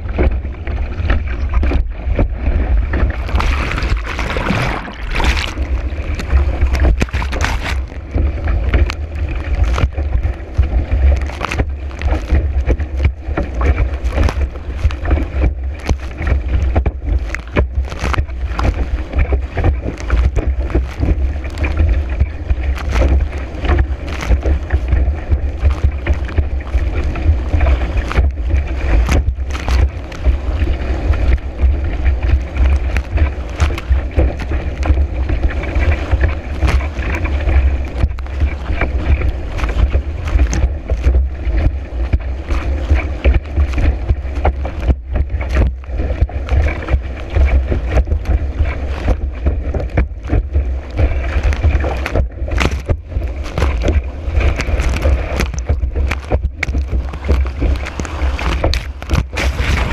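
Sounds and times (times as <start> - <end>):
board slapping on water: 0.0 - 59.9
strong wind buffeting microphone: 0.0 - 59.9
water rushing: 0.0 - 59.9.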